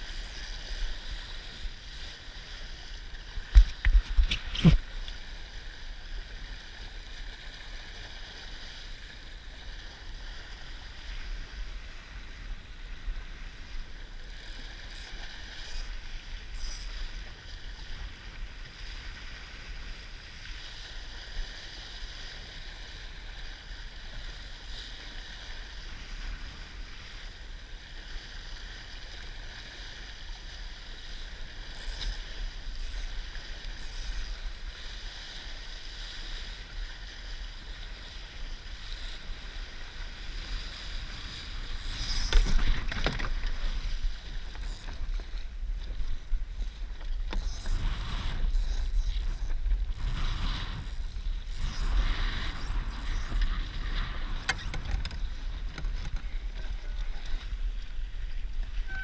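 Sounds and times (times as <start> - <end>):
wind rumble on microphone: 0.0 - 59.0
water splashing along boat hull: 0.1 - 12.2, 13.3 - 59.0.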